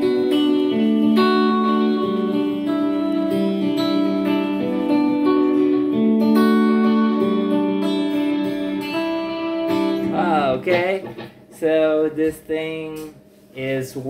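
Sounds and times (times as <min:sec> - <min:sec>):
guitar with tape echo: 0:00.0 - 0:14.0.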